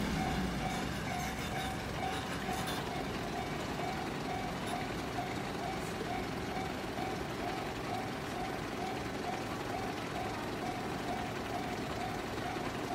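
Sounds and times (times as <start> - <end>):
electronic level crossing bell: 0.0 - 12.9
street and traffic noise: 0.0 - 12.9.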